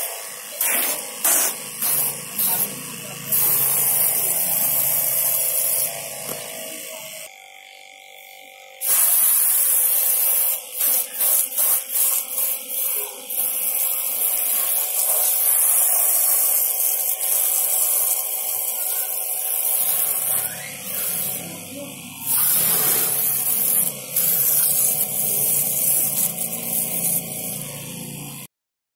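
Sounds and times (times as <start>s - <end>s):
water jet spraying on metal: 0.0s - 6.3s, 8.8s - 27.6s
electric water pump humming: 0.0s - 28.5s.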